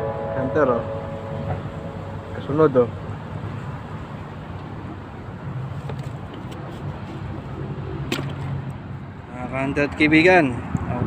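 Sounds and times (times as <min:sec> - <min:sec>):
low engine hum: 0:00.0 - 0:09.2
outdoor background noise: 0:00.0 - 0:11.0.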